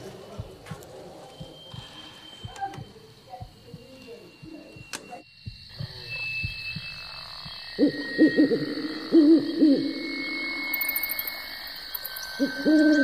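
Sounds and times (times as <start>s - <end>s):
steady high hiss: 0.0s - 13.0s
owl hooting: 1.1s - 13.0s.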